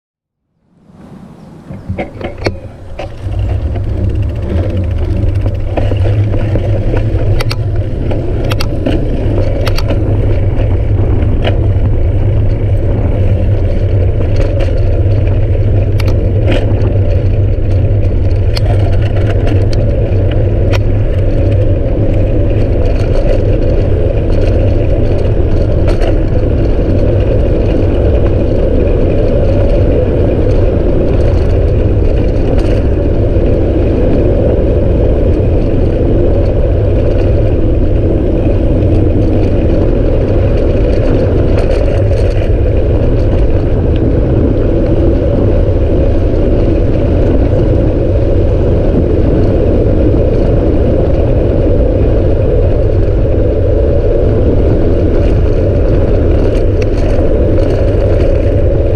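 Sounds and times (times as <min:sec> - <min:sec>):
wind buffeting microphone: 0:00.6 - 0:58.9
bicycle clicks and rattles: 0:01.5 - 0:58.9.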